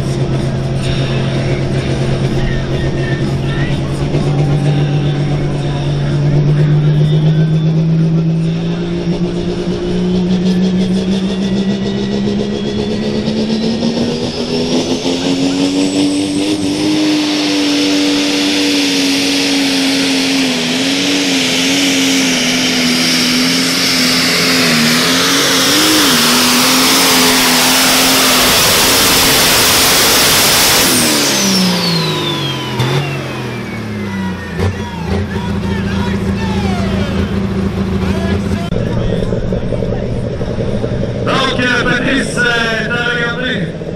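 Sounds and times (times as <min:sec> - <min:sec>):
high turbocharger whine: 0:00.0 - 0:43.9
tractor diesel engine under full load: 0:00.0 - 0:43.9.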